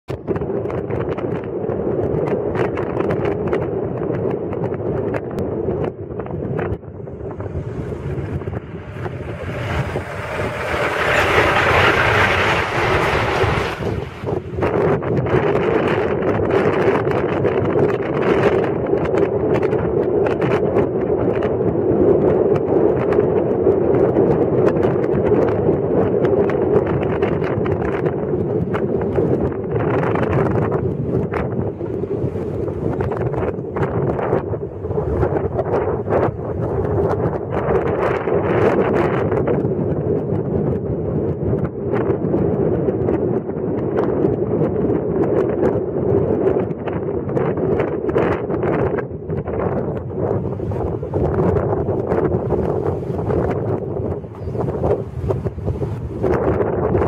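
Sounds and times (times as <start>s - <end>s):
wind on microphone: 0.0s - 57.0s
vehicle engine and road noise: 0.1s - 44.7s, 45.3s - 57.0s.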